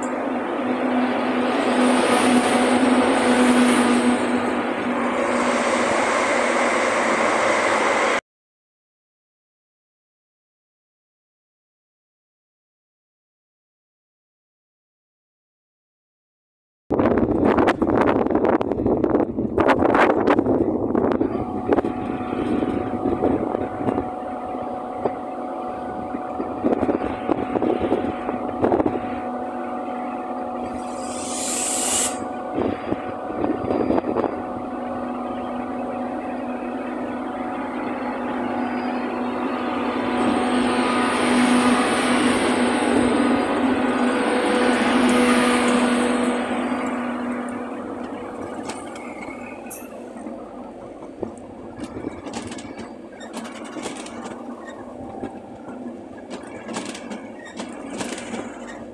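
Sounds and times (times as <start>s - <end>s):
electric locomotive hum and whine: 0.0s - 8.2s, 16.9s - 58.9s.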